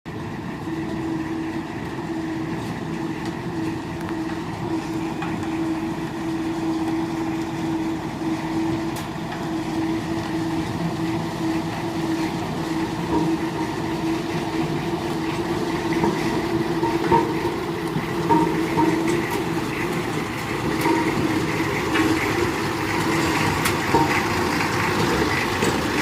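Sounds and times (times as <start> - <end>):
road roller engine rumble: 0.1 - 26.0.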